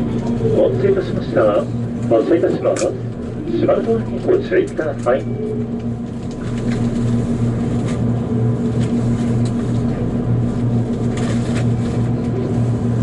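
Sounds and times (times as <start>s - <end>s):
low electrical hum in train: 0.0s - 13.0s.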